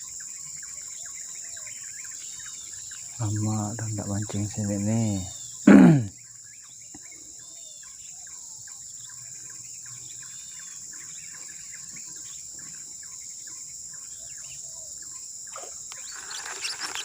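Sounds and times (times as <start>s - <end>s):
birds chirping: 0.0s - 17.0s
insects droning: 0.0s - 17.0s.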